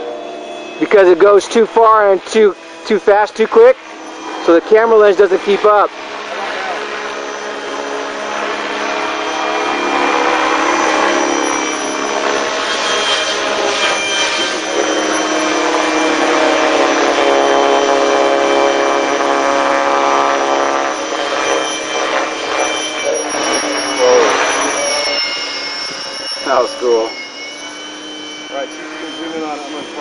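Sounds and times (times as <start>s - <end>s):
rc helicopter motor whine: 0.0s - 30.0s.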